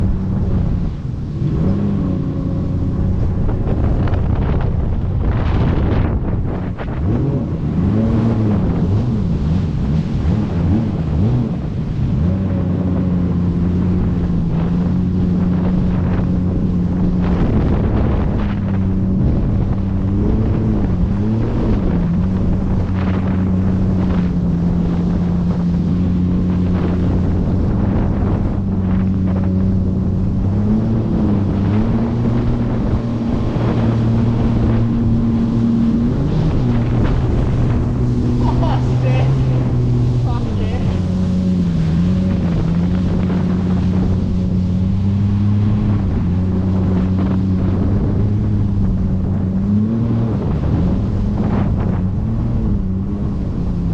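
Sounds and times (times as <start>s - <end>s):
jet ski engine running: 0.0s - 53.9s
wind buffeting microphone: 0.0s - 53.9s.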